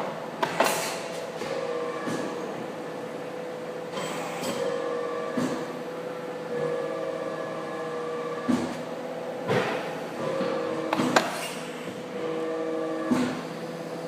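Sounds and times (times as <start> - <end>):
machine motor whine: 1.2 - 14.0.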